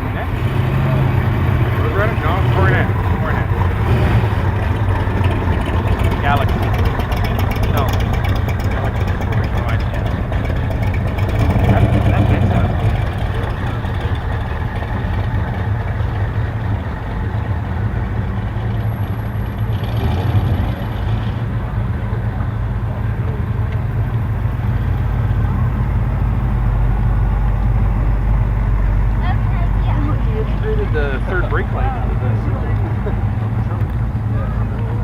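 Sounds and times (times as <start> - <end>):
car engines rumbling past: 0.0 - 35.0
louder engine approaching: 0.0 - 35.0.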